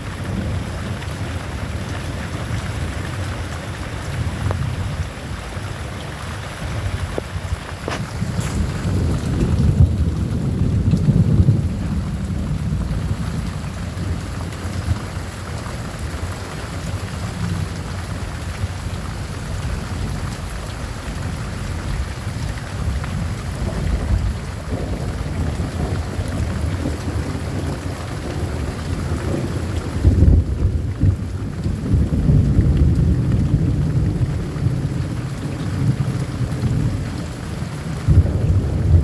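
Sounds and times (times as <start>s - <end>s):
steady rain: 0.0s - 39.0s
thunder rumbling: 6.2s - 39.0s.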